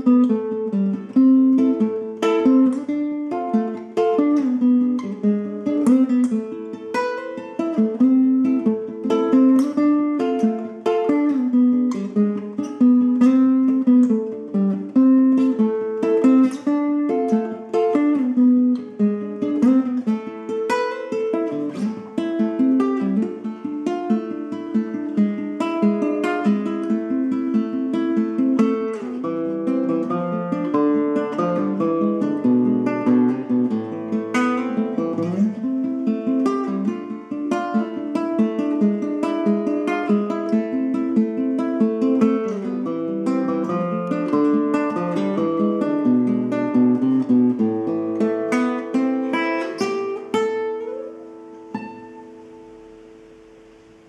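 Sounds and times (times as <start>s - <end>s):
classical guitar fingerstyle: 0.0s - 54.0s.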